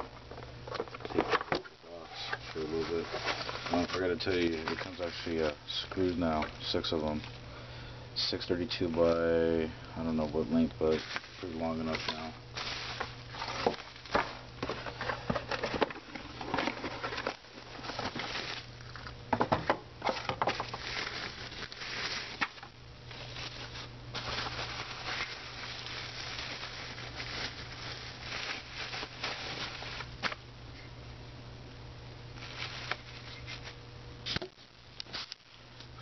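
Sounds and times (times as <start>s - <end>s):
steady low hum: 0.0s - 36.0s
bubble wrap crinkling: 1.9s - 7.4s, 8.7s - 19.2s, 20.0s - 30.5s, 32.3s - 36.0s.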